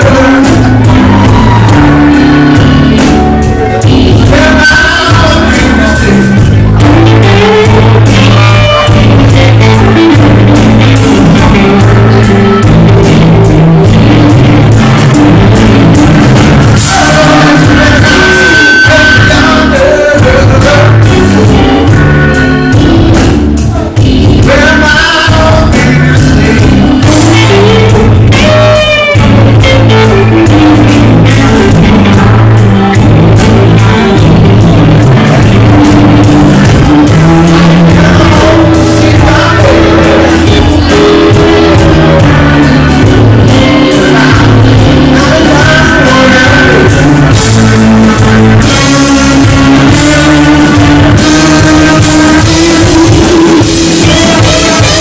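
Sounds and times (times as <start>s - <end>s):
drum kit: 0.0s - 55.0s
electric guitar: 0.0s - 55.0s
keyboard: 0.0s - 55.0s
singer: 0.0s - 55.0s.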